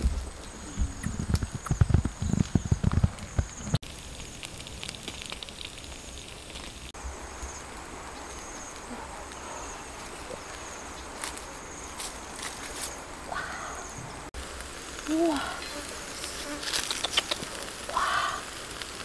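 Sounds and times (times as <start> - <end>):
embers crackling: 0.0 - 19.0
insects trilling: 0.0 - 19.0
outdoor hiss: 3.3 - 19.0.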